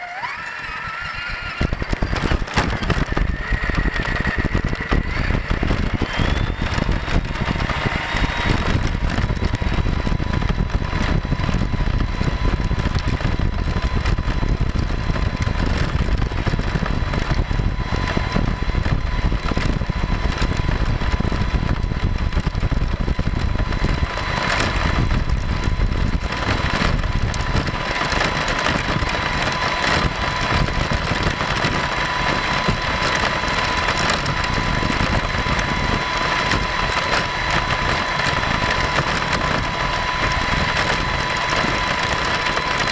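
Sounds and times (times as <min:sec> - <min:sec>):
electric motor whine: 0:00.0 - 0:42.9
tyres rumbling on gravel: 0:00.0 - 0:42.9.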